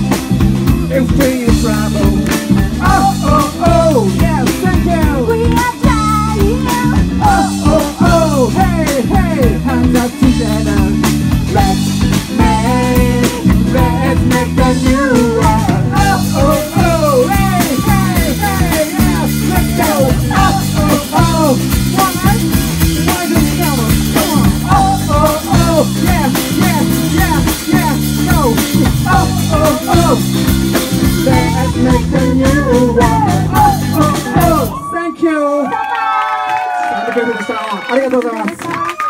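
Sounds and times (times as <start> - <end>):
drum kit: 0.0 - 34.8
electric guitar: 0.0 - 34.8
bass guitar: 0.0 - 35.0
person singing lead vocals: 0.7 - 35.7.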